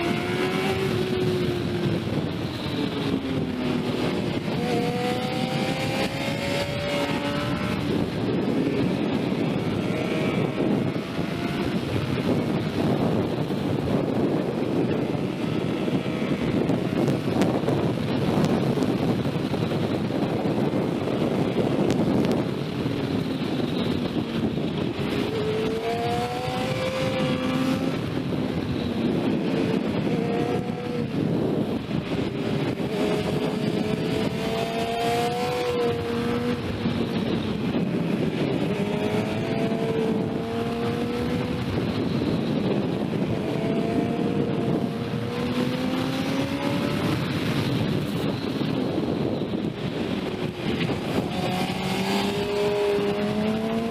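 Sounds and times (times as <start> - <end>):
motorcycle engine accelerating: 0.0 - 53.9
wind noise rushing: 0.0 - 53.9.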